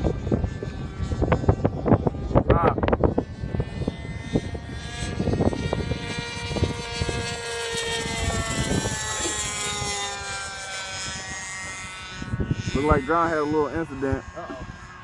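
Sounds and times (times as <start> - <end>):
model plane engines droning: 0.0 - 15.0.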